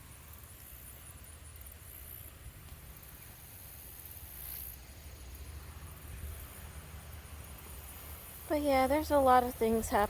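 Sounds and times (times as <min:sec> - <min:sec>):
crickets buzzing: 0:00.0 - 0:10.0.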